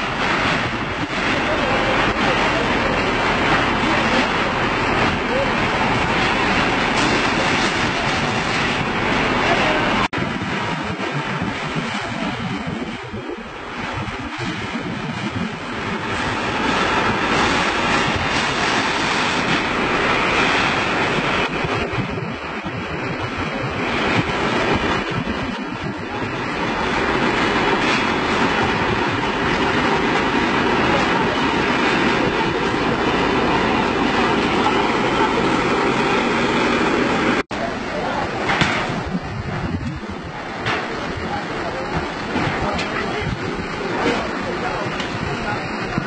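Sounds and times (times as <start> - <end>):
fire truck engine and pump drone: 0.0 - 46.0.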